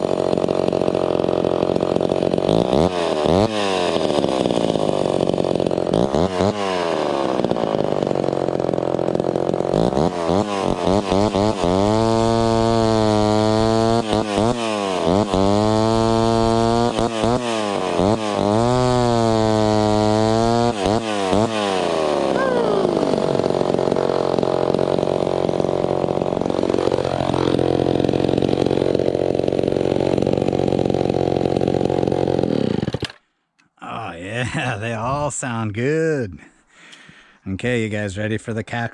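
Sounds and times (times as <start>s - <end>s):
chainsaw revving: 0.0s - 33.3s
chainsaw cutting log: 0.0s - 33.4s.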